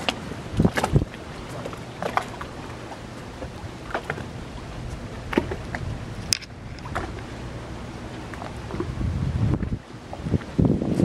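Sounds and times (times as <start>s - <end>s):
waves slapping wooden pilings: 0.0s - 11.0s
wind buffeting microphone: 0.0s - 11.0s.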